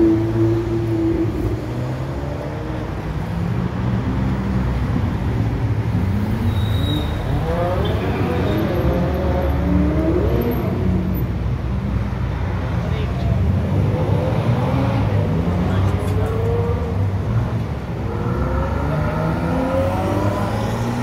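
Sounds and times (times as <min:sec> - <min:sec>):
engines revving as cars pull away: 0:00.0 - 0:11.6, 0:12.4 - 0:21.0
cars driving past: 0:00.0 - 0:21.0.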